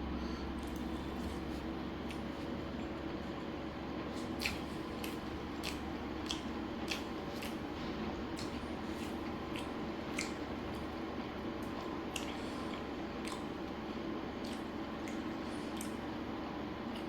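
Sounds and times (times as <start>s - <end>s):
steady background hum: 0.0s - 17.0s
wet chewing and mouth sounds: 0.6s - 16.2s, 16.8s - 17.0s.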